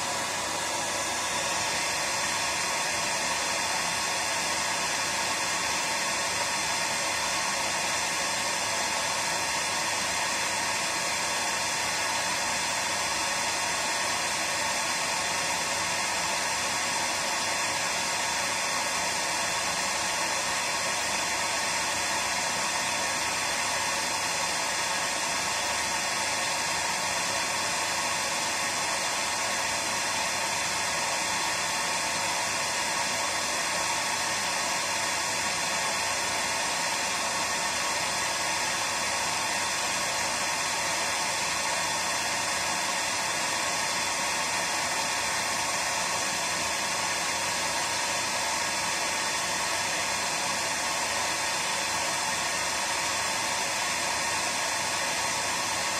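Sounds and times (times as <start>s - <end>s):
hair dryer blowing: 0.0s - 55.9s.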